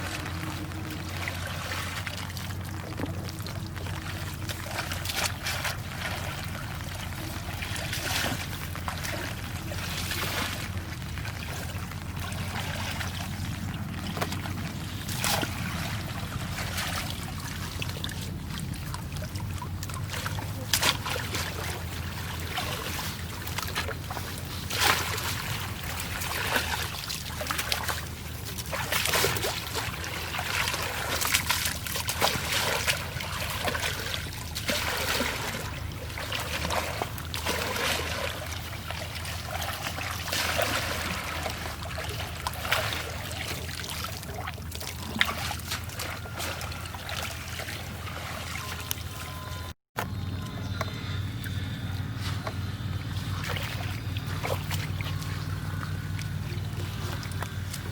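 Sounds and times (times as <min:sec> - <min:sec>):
steady low hum: 0:00.0 - 0:57.9
water splashing and trickling: 0:00.0 - 0:57.9.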